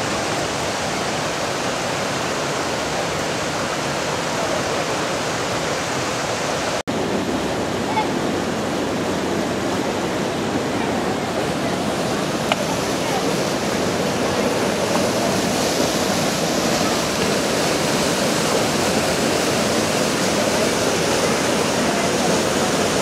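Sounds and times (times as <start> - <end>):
whitewater rushing over boulders: 0.0 - 23.0.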